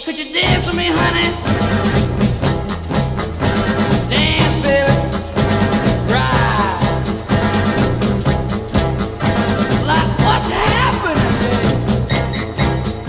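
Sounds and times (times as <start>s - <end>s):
gliding pitched notes: 0.4s - 13.0s
rock band playing: 0.4s - 13.0s.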